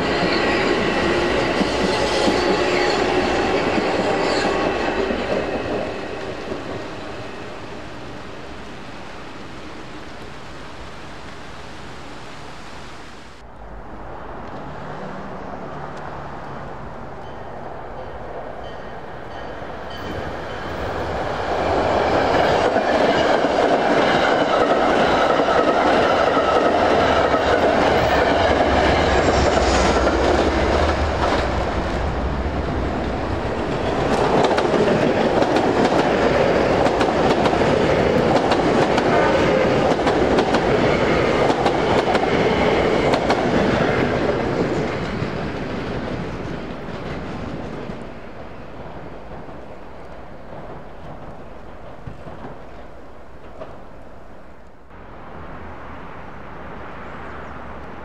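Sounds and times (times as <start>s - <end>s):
train passing: 0.0s - 58.0s.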